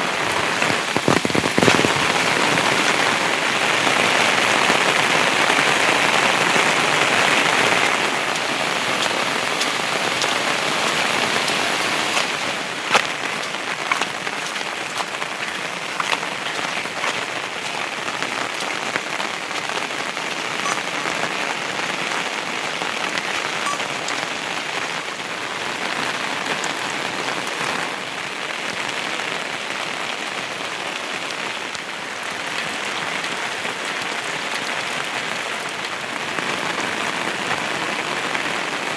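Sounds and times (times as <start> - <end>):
heavy rain falling: 0.0 - 38.9
raindrops tapping close by: 0.0 - 38.9.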